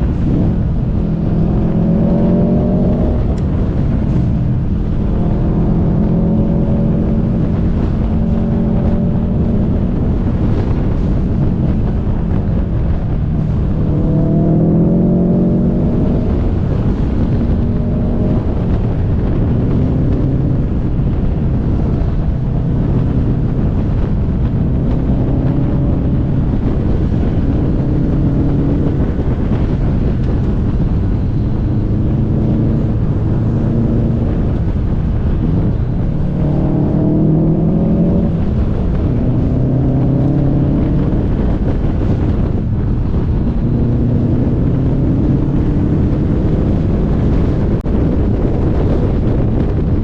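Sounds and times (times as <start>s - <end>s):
car engine accelerating: 0.0s - 50.0s
road and wind noise: 0.0s - 50.0s.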